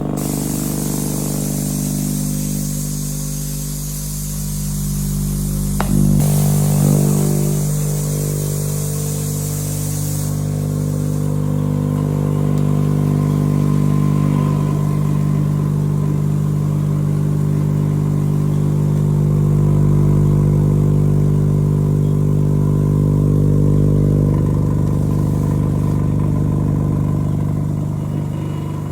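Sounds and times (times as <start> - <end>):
motor humming: 0.0 - 28.9.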